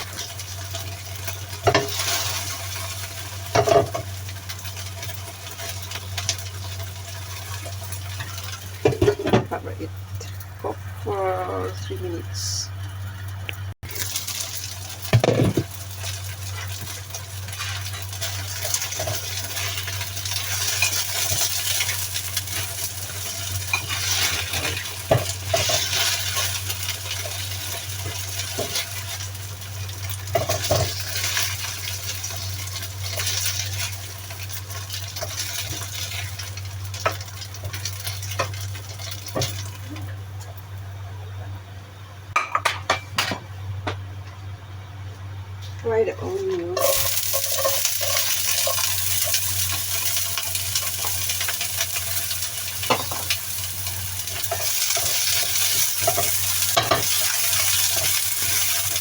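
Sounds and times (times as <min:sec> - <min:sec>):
food sizzling in a covered pan: 0:00.0 - 0:44.2, 0:45.0 - 0:59.0.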